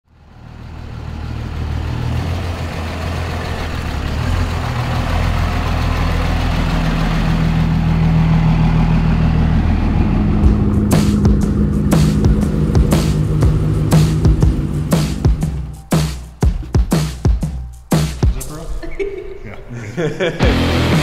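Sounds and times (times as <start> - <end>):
pickup engine running: 0.1 - 18.4.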